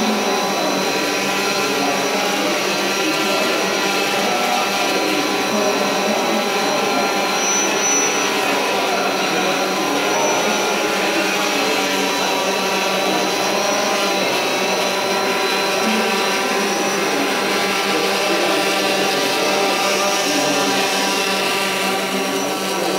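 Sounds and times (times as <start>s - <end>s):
drone buzzing whine: 0.0s - 22.9s.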